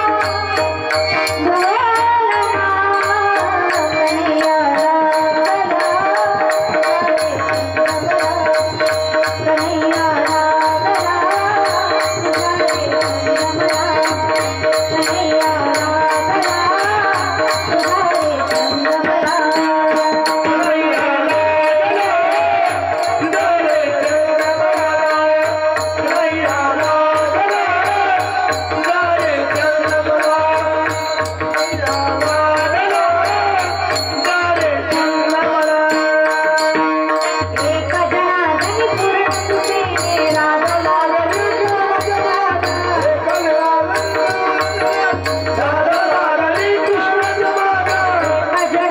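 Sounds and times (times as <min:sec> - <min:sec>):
hand cymbals striking: 0:00.0 - 0:48.9
harmonium tones: 0:00.0 - 0:48.9
woman singing: 0:00.0 - 0:48.9.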